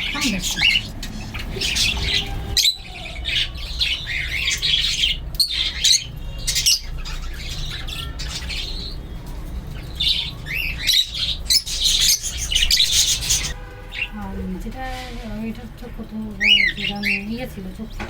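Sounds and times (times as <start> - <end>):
budgerigar chicks squawking: 0.0 - 18.0.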